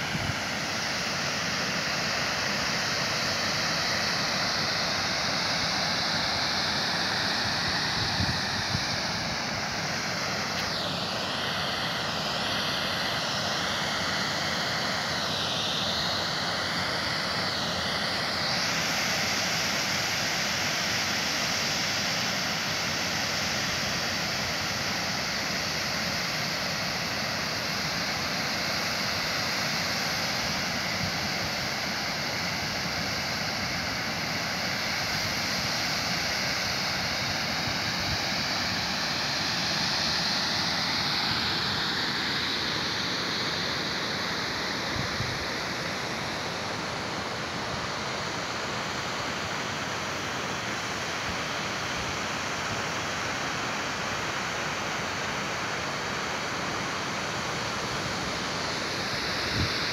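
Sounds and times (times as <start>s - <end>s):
faint wavering whine: 0.0s - 59.9s.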